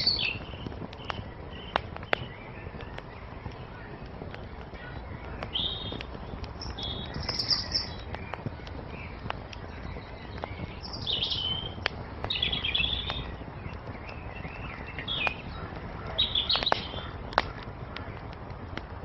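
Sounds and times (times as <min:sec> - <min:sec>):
songbirds chirping: 0:00.0 - 0:19.0
steady low rush: 0:00.0 - 0:19.0
wood fire popping and crackling: 0:00.0 - 0:19.0.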